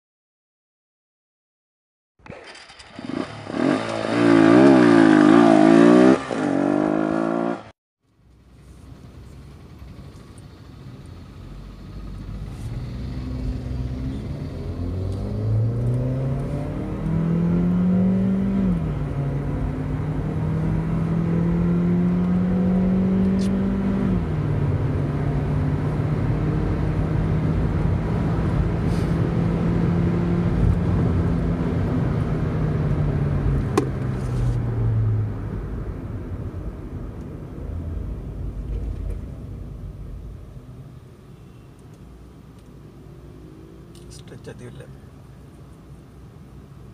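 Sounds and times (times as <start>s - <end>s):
car engine accelerating: 2.2s - 7.7s, 8.3s - 41.0s, 41.8s - 45.7s.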